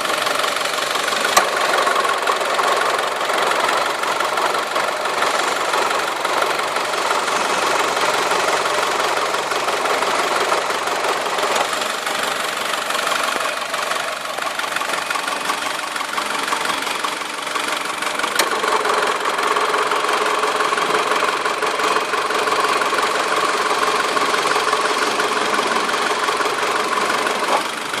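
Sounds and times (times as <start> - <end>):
car compressor whine: 0.0 - 28.0.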